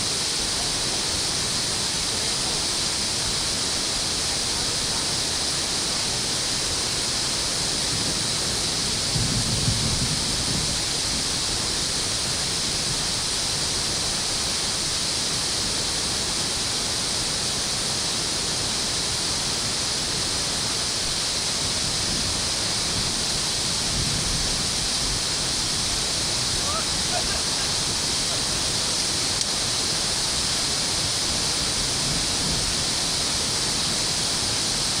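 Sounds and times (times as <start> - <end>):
water rushing through dam outlet: 0.0 - 35.0.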